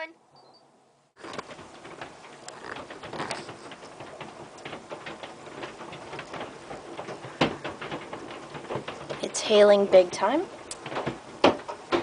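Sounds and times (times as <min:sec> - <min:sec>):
hailstones pelting down: 0:01.2 - 0:12.0.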